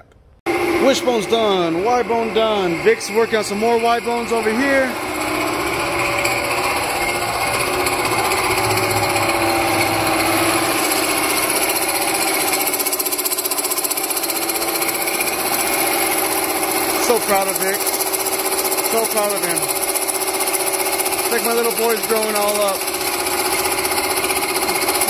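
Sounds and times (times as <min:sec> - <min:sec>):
metal-cutting machine whining: 0:00.5 - 0:25.0.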